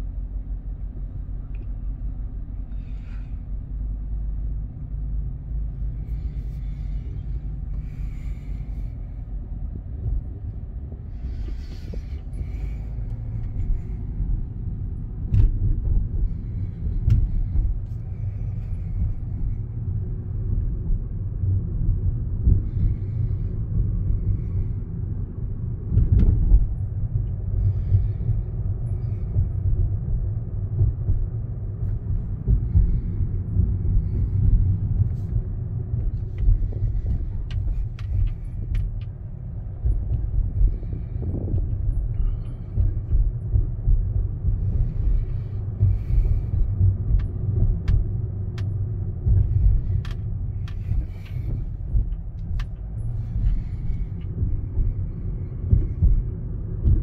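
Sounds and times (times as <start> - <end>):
road and wind noise in car: 0.0 - 57.0.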